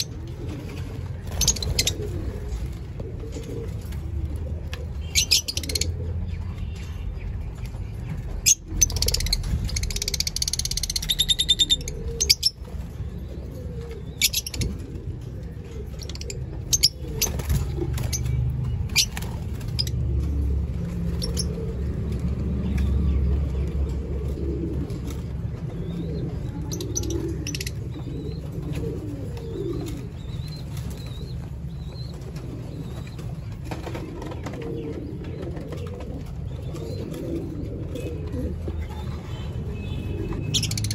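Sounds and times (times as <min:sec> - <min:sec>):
steady low rumble: 0:00.1 - 0:39.1.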